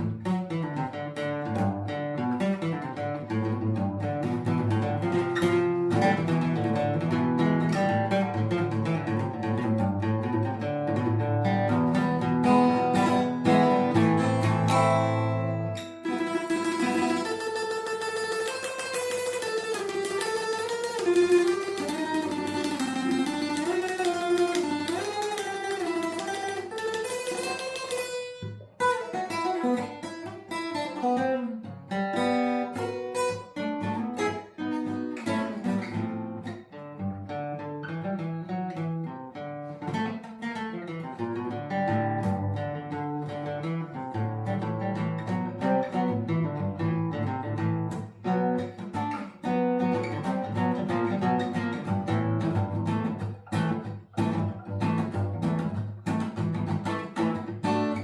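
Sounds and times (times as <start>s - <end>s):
acoustic guitar: 0.0s - 58.0s.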